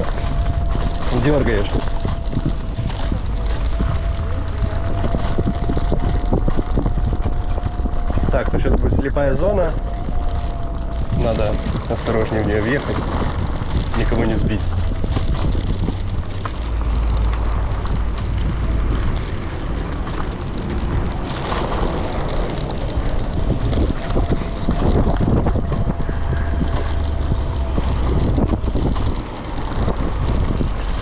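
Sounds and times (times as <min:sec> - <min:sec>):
road noise: 0:00.0 - 0:31.0
wind buffeting microphone: 0:00.0 - 0:31.0.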